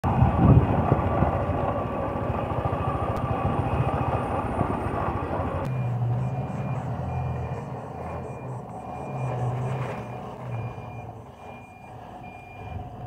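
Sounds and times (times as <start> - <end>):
heavy truck engine running: 0.0 - 13.0
road and wind noise: 0.0 - 13.0.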